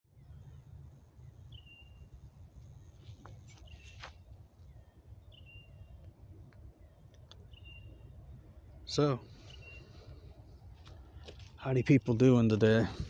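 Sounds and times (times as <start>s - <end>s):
low rumble of wind: 0.1s - 13.0s.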